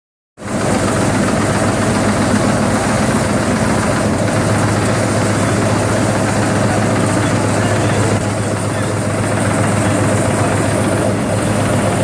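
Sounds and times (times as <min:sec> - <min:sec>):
punching machine running: 0:00.4 - 0:12.0.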